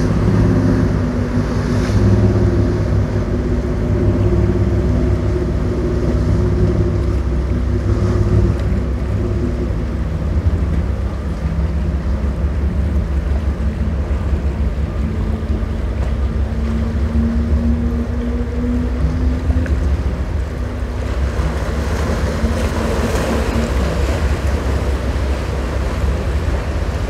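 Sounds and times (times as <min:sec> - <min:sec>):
boat engines droning: 0:00.0 - 0:27.0
waves: 0:00.0 - 0:27.0.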